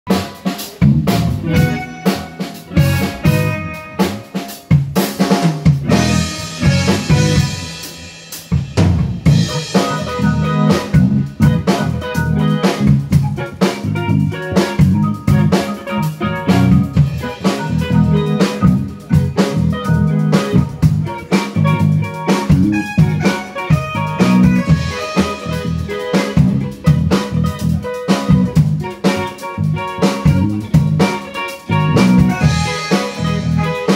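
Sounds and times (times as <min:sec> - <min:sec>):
drum kit beat: 0:00.1 - 0:33.9
electric bass: 0:00.1 - 0:33.9
electric guitar: 0:00.1 - 0:33.9
keyboard: 0:00.1 - 0:33.9
live band playing: 0:00.1 - 0:33.9.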